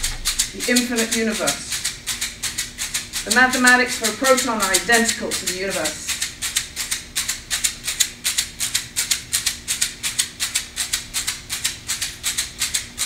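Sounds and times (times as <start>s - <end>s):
hand rattle shaken: 0.0s - 13.0s.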